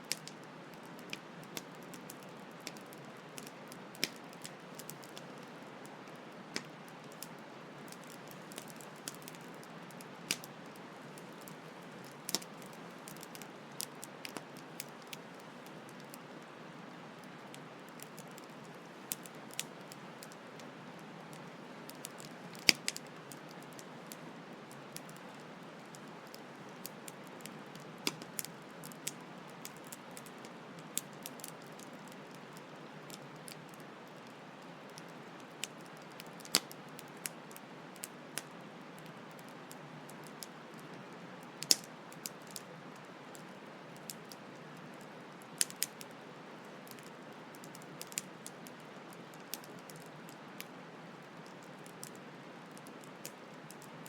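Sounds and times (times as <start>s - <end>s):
campfire crackling and popping: 0.1s - 16.5s, 17.1s - 50.7s, 51.4s - 54.0s.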